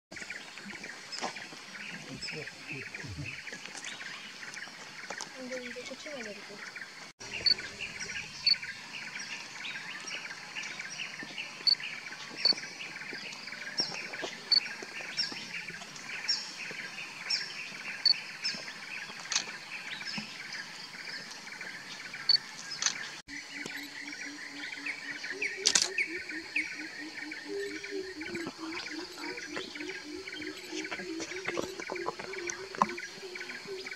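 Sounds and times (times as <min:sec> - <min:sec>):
birds chirping: 0:00.1 - 0:33.9.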